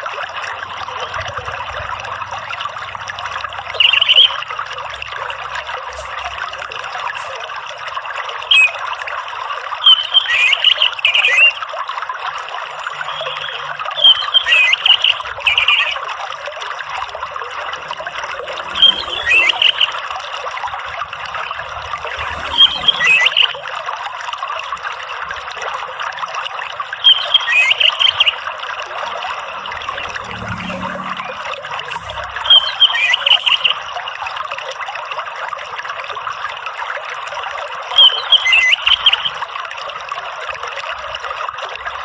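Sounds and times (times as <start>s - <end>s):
trickling running water: 0.0s - 42.0s.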